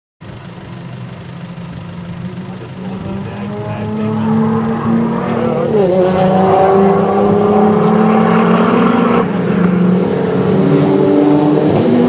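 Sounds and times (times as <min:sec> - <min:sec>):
sports car engine accelerating: 0:00.2 - 0:12.0.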